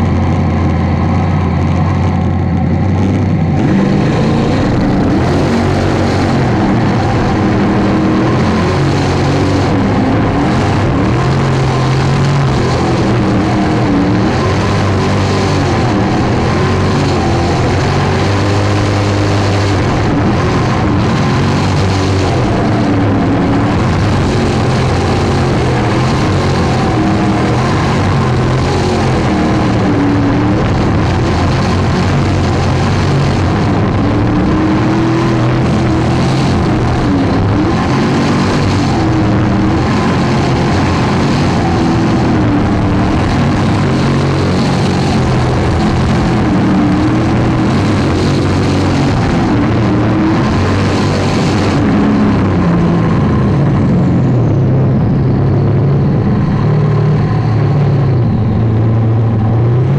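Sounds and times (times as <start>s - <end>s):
boat engine revving: 0.0s - 59.9s.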